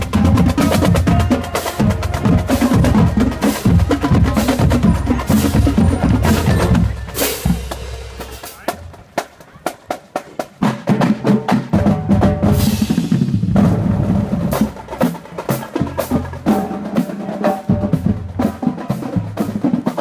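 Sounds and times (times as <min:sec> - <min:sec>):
snare and bass drums marching: 0:00.0 - 0:20.0.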